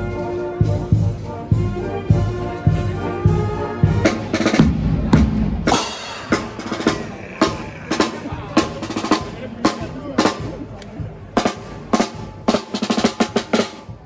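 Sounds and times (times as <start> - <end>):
brass band playing: 0.0 - 10.5, 11.3 - 14.0
marching drums and cymbals: 0.0 - 14.0.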